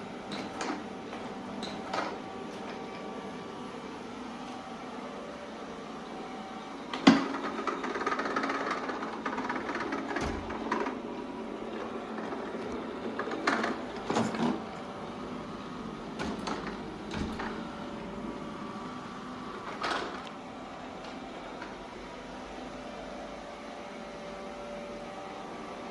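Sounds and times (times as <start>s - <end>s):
robot vacuum humming: 0.0s - 25.8s.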